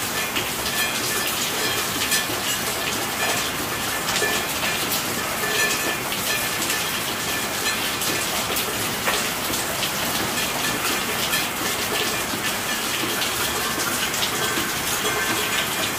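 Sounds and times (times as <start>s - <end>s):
steady rainfall: 0.0s - 15.9s.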